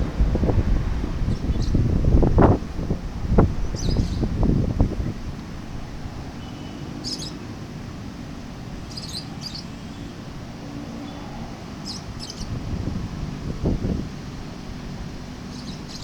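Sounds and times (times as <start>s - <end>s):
steady low outdoor rumble: 0.0s - 16.0s.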